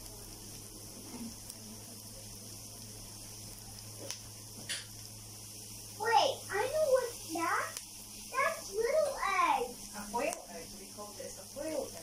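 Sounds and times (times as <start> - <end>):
onion and garlic sizzling: 0.0 - 12.0.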